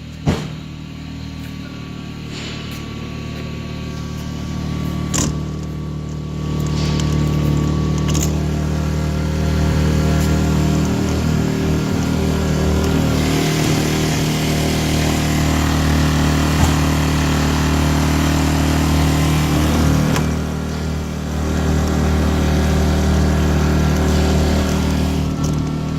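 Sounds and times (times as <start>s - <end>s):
generator engine running: 0.0s - 25.9s.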